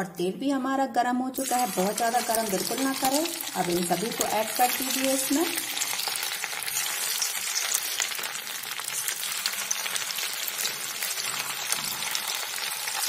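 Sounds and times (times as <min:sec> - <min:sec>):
food deep-frying in hot oil: 0:01.4 - 0:13.0.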